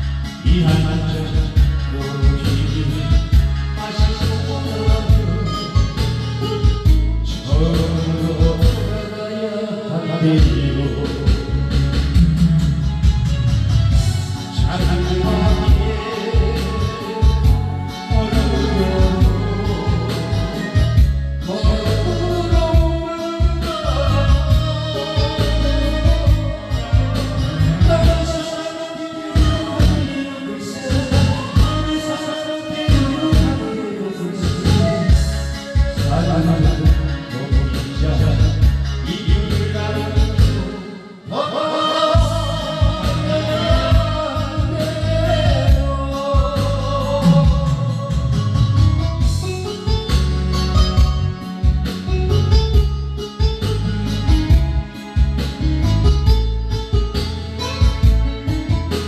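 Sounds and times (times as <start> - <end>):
pulsing bass line: 0.0 - 9.0, 10.4 - 28.5, 29.3 - 30.2, 30.9 - 32.0, 32.8 - 33.8, 34.4 - 40.8, 42.2 - 59.0
singing over a backing track: 0.0 - 59.0.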